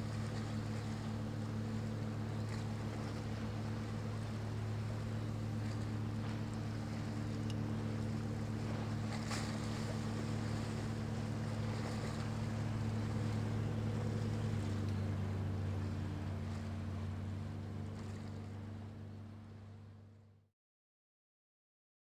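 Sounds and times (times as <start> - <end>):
wind and water noise: 0.0 - 20.2
boat diesel engine droning: 0.0 - 20.4.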